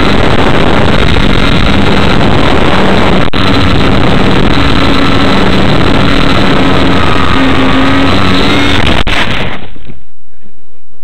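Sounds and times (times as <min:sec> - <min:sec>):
electric motor whine: 0:00.0 - 0:10.0
model airplane propeller and wind rush: 0:00.0 - 0:11.0.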